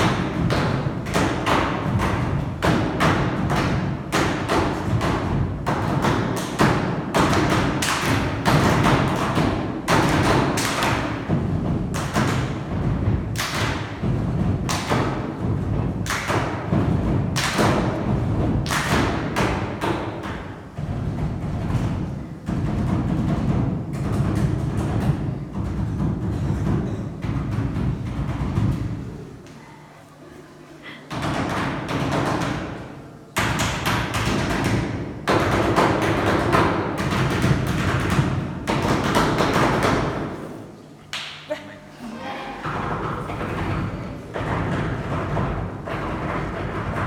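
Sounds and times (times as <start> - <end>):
percussion knocks and thumps: 0.0 - 29.3, 31.1 - 40.4, 42.6 - 47.0.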